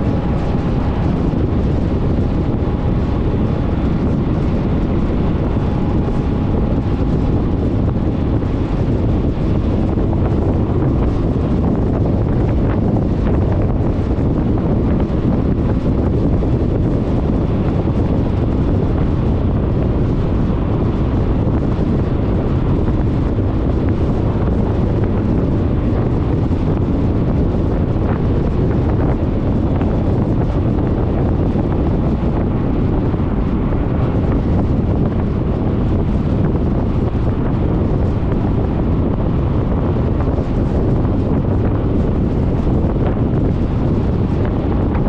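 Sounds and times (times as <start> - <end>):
wind rumble on microphone: 0.0 - 45.0.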